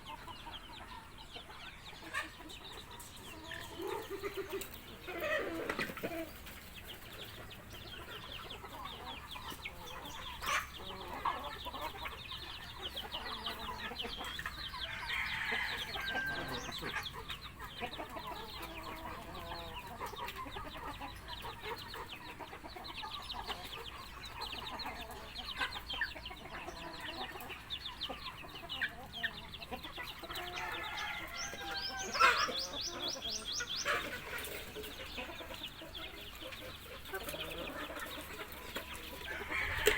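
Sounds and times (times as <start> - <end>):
chickens clucking and calling: 0.0 - 39.9
sharp chicken calls: 0.0 - 39.9.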